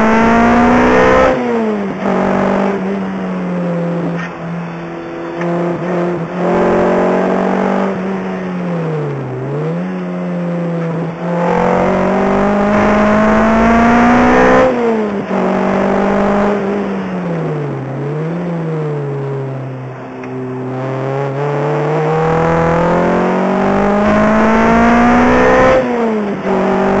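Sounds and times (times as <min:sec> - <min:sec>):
car engine accelerating in cabin: 0:00.0 - 0:27.0.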